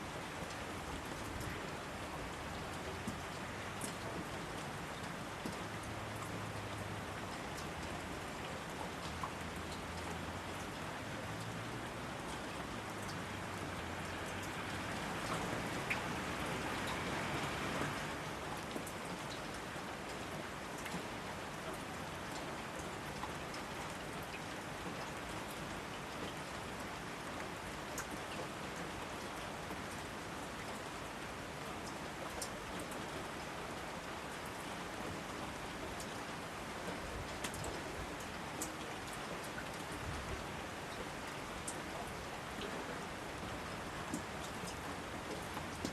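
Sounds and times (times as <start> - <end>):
raindrops ticking close by: 0.0 - 45.9
steady rain falling: 0.0 - 45.9.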